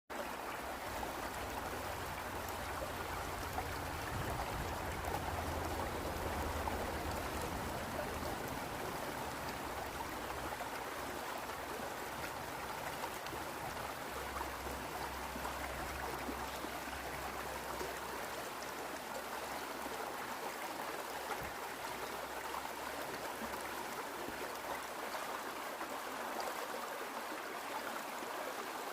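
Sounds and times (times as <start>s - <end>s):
stream running over rocks: 0.1s - 28.9s.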